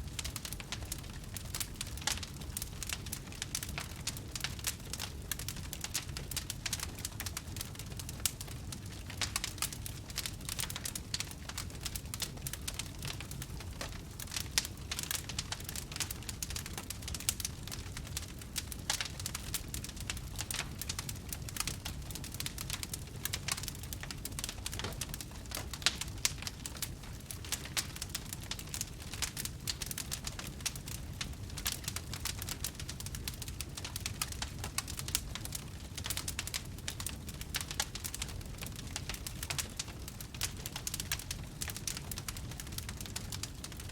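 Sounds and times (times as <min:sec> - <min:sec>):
low rumble of burning: 0:00.0 - 0:43.9
wood fire crackling: 0:00.0 - 0:43.9.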